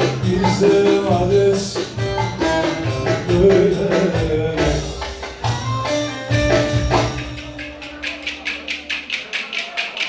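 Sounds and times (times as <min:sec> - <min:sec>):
folk dance band melody: 0:00.0 - 0:10.0
steady percussion beat: 0:00.0 - 0:10.0.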